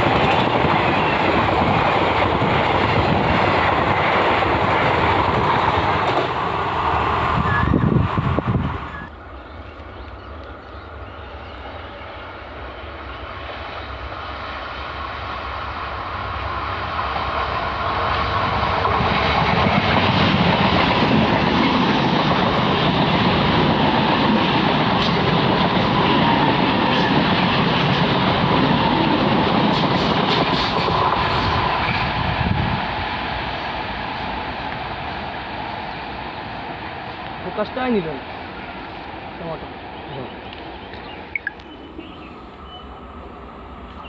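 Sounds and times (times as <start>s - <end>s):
train passing: 0.0s - 44.0s.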